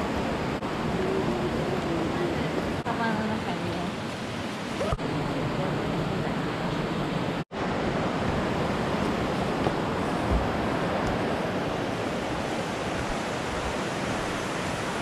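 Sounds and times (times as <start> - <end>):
fast-flowing river water: 0.0 - 15.0.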